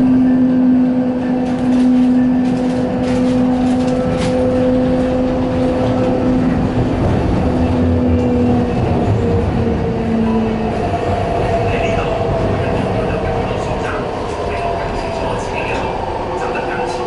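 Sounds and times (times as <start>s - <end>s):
wheels rumbling on track: 0.0s - 17.0s.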